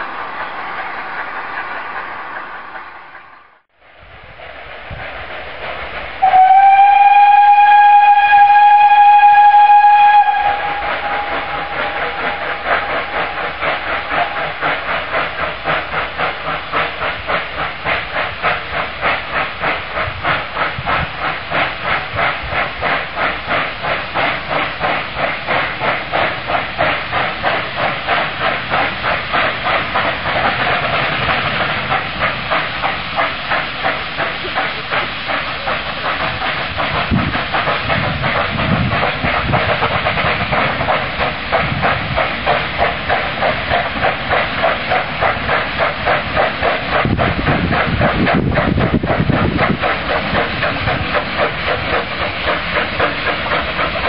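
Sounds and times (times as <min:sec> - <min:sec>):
steam hissing: 0:00.0 - 0:54.0
steam locomotive chuffing: 0:00.0 - 0:54.0.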